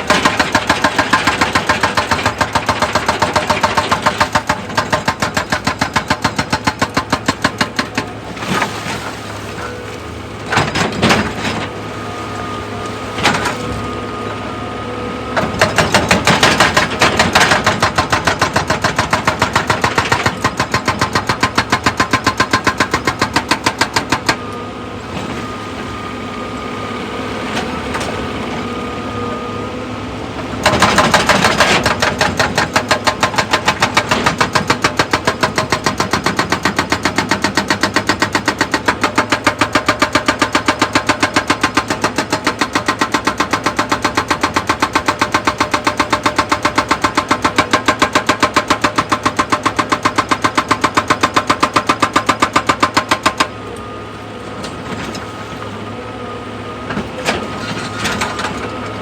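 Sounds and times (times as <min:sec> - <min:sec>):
hydraulic rock breaker hammering: 0:00.0 - 0:26.8, 0:30.4 - 0:59.0
diesel engine running: 0:00.0 - 0:59.0.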